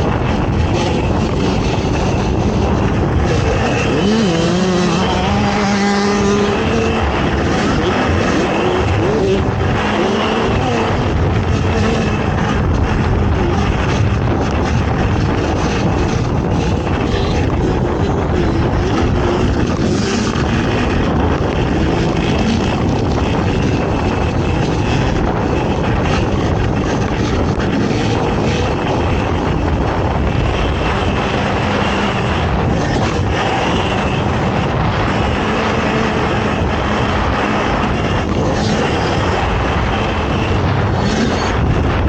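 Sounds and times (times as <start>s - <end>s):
atv engine running hard: 0.0s - 42.0s.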